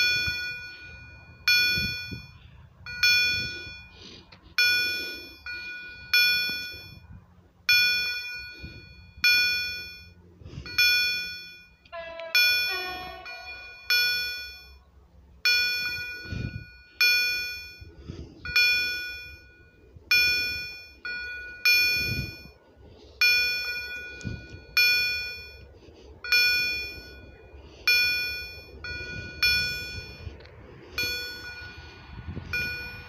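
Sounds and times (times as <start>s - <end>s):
level crossing warning bell: 0.0s - 33.0s.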